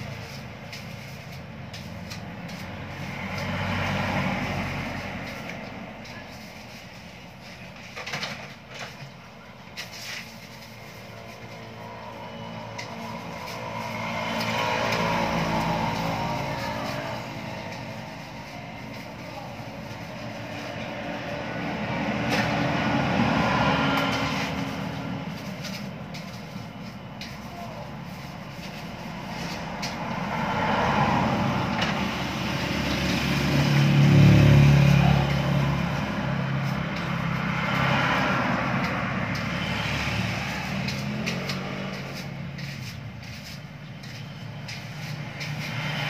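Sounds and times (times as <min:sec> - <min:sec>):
motor vehicles passing: 0:00.0 - 0:46.0.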